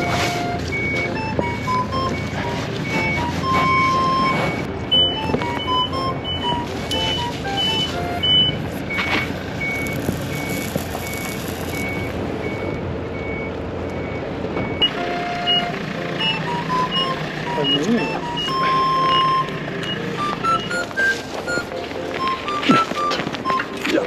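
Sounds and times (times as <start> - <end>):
backup alarm beeping: 0.0 - 24.0
heavy machinery engine running: 0.0 - 24.0
other beeps: 0.0 - 24.0.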